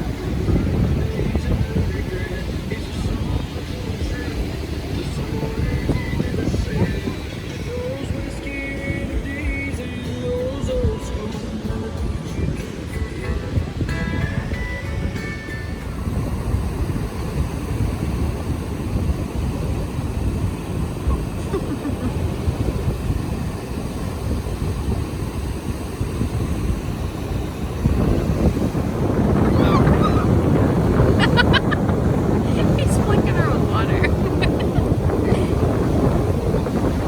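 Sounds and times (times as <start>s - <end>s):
surf washing on beach: 0.0s - 37.0s
wind buffeting microphone: 0.0s - 37.0s.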